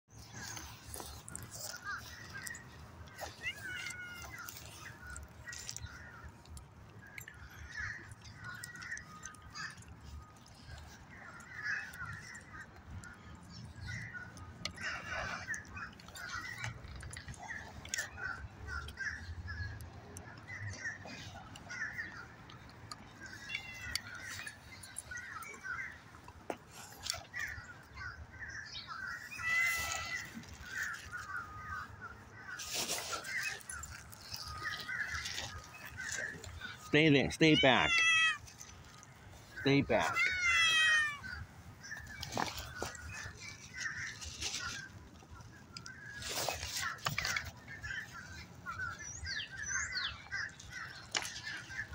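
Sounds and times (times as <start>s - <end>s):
birds chirping and calling: 0.1s - 51.9s.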